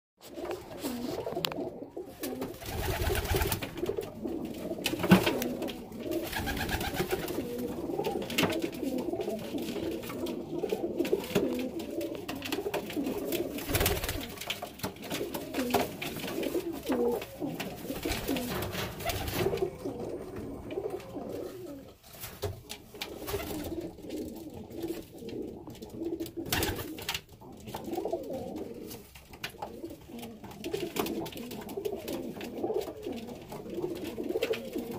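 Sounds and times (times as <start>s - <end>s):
pigeons cooing: 0.2s - 22.0s, 22.6s - 34.9s.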